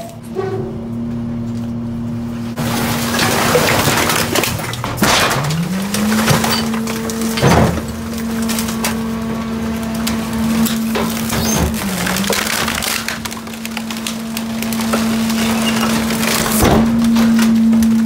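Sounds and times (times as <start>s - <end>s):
garbage truck machine drone: 0.0s - 18.0s
wood cracking and splintering: 2.6s - 18.0s.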